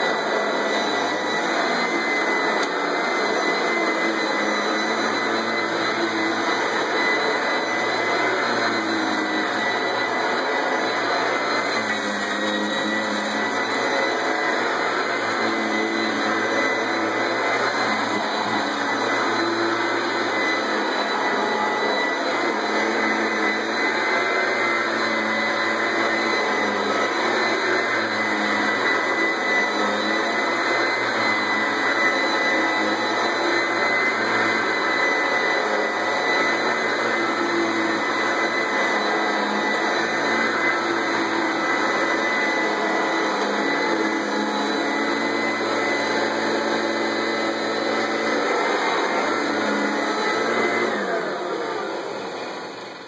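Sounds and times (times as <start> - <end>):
vacuum cleaner whining: 0.0 - 53.0.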